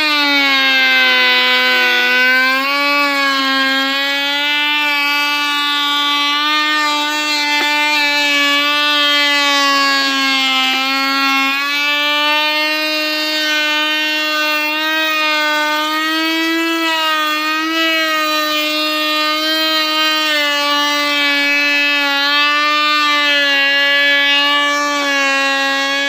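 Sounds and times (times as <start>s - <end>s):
router high whine: 0.0s - 26.0s.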